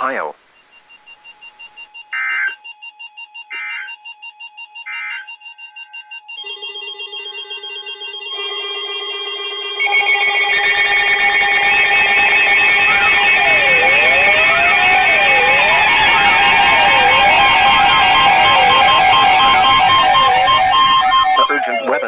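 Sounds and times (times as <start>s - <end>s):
screeching digital data tones: 0.6s - 8.6s, 9.2s - 22.0s
electronic ringtone-like music: 0.7s - 22.0s.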